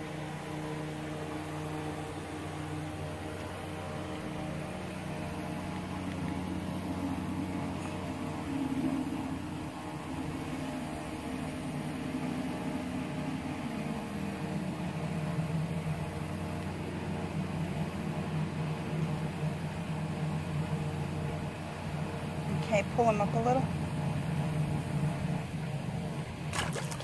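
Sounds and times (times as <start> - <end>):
low motor hum: 0.0 - 27.0.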